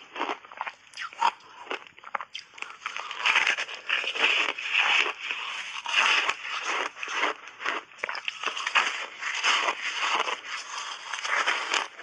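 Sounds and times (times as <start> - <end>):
ice crunching between teeth: 0.0 - 12.0.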